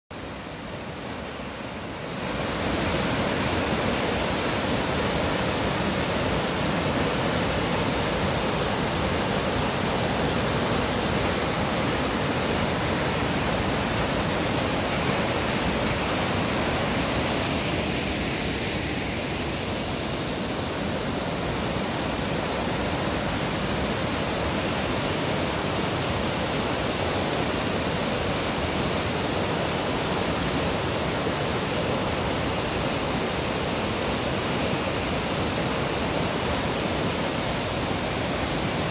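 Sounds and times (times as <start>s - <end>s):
creek rushing over boulders: 0.1s - 38.9s.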